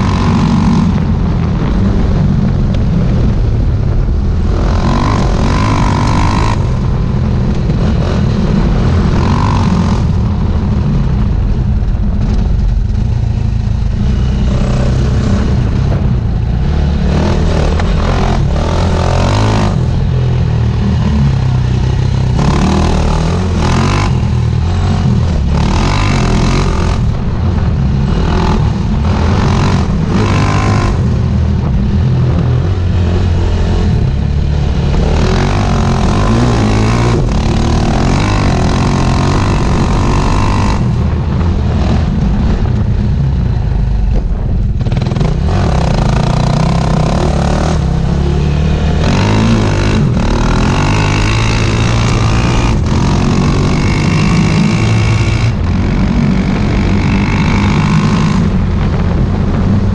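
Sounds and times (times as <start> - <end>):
heavy wind: 0.0 - 59.9
motorcycle engine revving: 0.0 - 59.9
track noise: 0.0 - 59.9.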